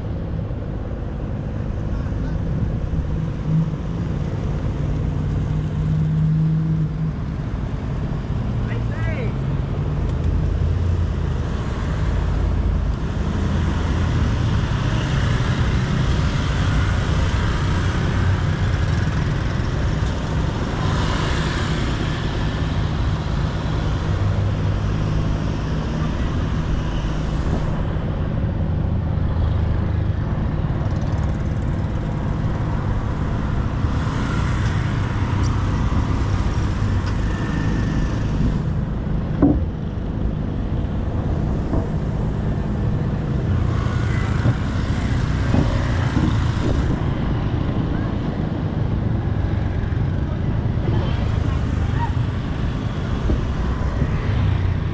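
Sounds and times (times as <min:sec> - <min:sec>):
traffic rumble: 0:00.0 - 0:54.9.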